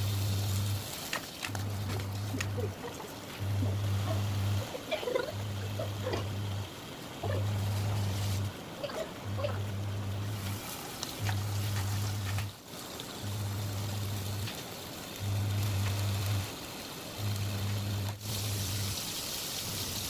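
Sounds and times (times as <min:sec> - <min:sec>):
potatoes sizzling in a pan: 0:00.0 - 0:09.0, 0:10.3 - 0:20.0
low cycling hum: 0:00.0 - 0:19.0.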